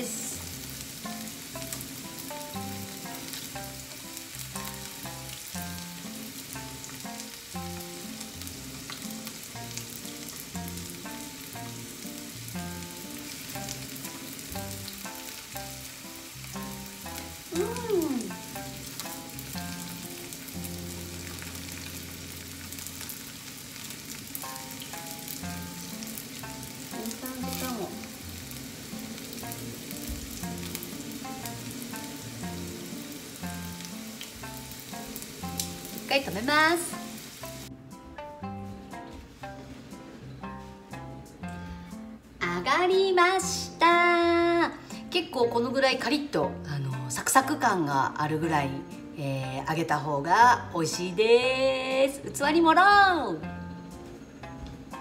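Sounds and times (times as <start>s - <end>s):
bitter melon sizzling in oil: 0.0s - 55.0s
faint music: 0.0s - 55.0s.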